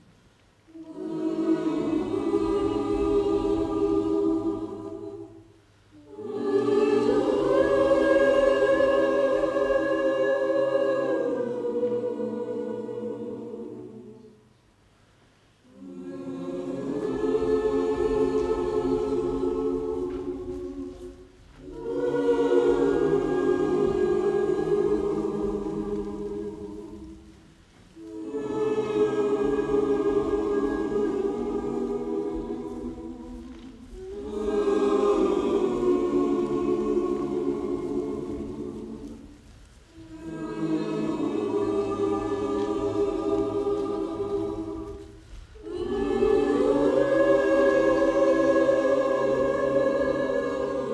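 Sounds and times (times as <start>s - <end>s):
choir singing: 0.7s - 14.6s, 15.6s - 50.9s.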